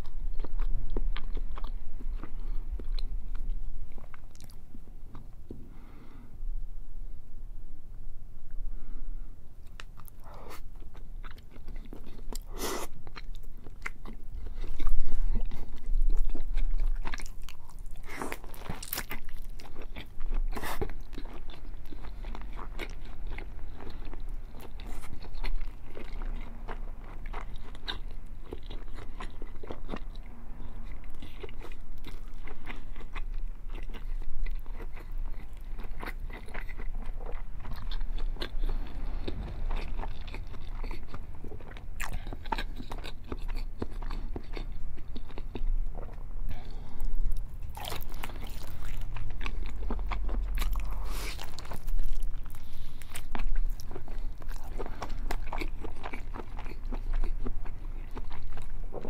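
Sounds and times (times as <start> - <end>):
biting and chewing bacon: 9.7 - 59.0.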